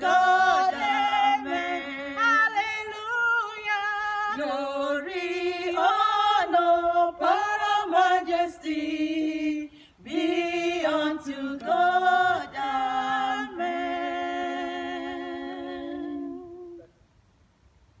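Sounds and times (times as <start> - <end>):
women singing in harmony: 0.0 - 17.0.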